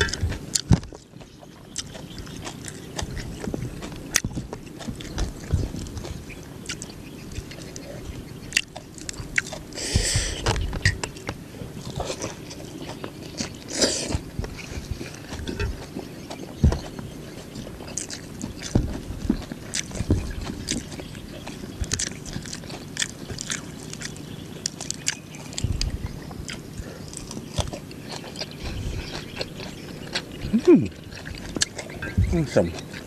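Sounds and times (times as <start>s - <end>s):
man chewing crispy food: 0.0s - 33.0s.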